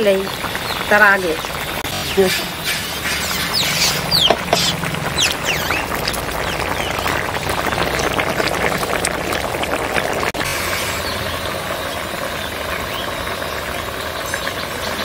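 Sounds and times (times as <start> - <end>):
curry boiling hard in a pan: 0.0 - 15.0.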